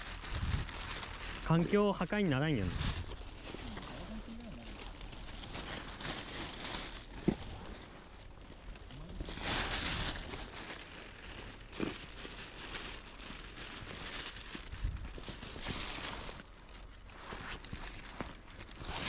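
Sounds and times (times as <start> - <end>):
plastic bag rustling and crinkling: 0.0 - 19.0.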